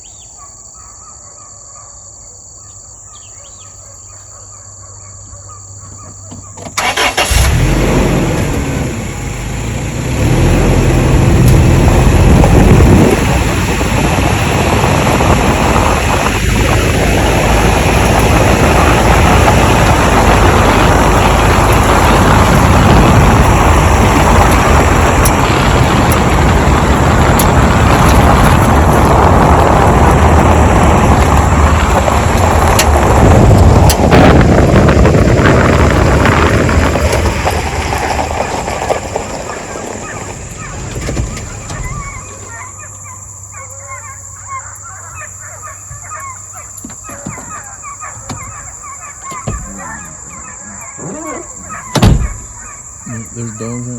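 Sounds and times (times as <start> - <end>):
vehicle engine starting and revving: 6.4 - 53.9.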